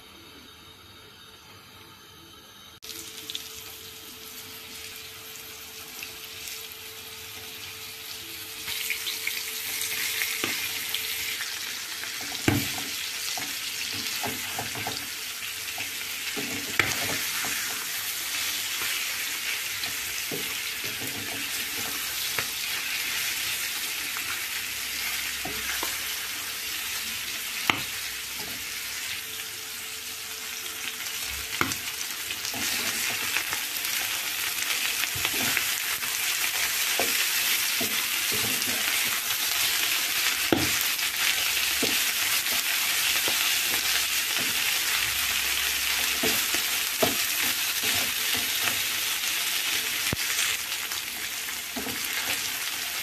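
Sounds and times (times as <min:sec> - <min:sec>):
food sizzling in oil: 0:02.0 - 0:53.0.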